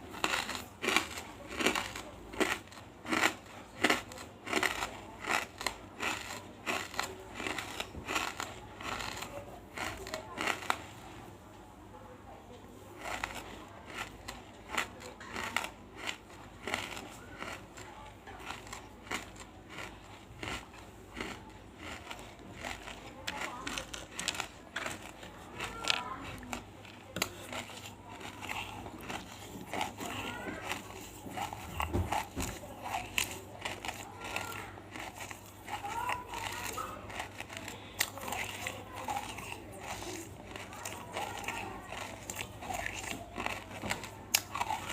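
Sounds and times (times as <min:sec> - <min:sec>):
crunching in the mouth: 0:00.0 - 0:11.1, 0:13.0 - 0:44.9.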